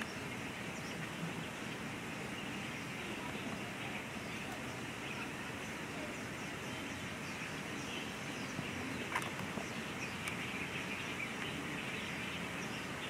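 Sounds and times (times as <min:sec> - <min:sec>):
birds chirping: 0:00.0 - 0:13.0
outdoor background hiss: 0:00.0 - 0:13.0.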